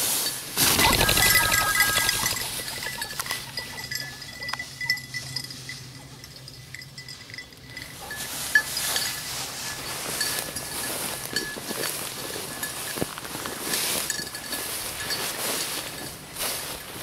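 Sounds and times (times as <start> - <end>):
small collar bell clinking: 0.3 - 17.0.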